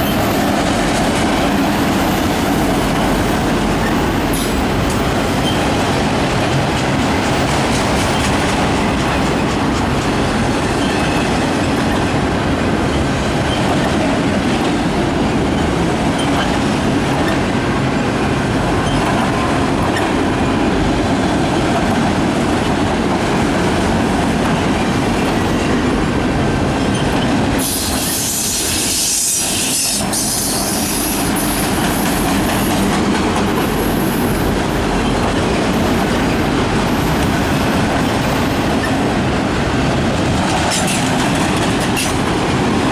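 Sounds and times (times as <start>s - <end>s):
train wheels rumbling and clattering: 0.0s - 42.9s.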